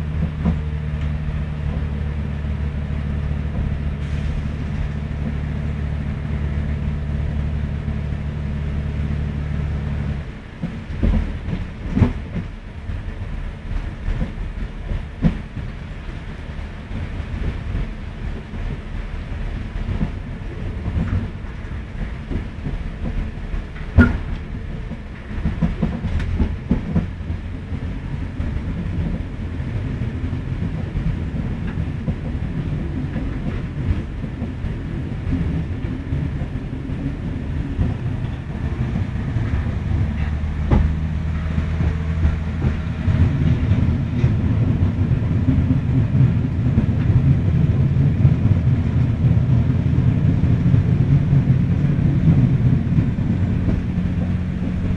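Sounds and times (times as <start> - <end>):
diesel engine hum: 0.0 - 54.9
train wheels rumbling on track: 0.0 - 54.9.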